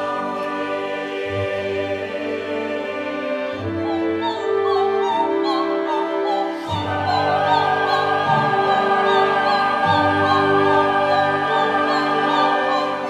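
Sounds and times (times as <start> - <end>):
opera singing with vibrato: 0.0 - 13.0
orchestral chords: 0.0 - 13.0.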